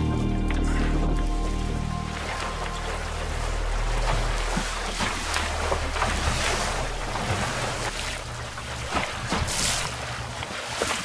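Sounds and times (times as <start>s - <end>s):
water slapping boat hull: 0.5s - 11.0s.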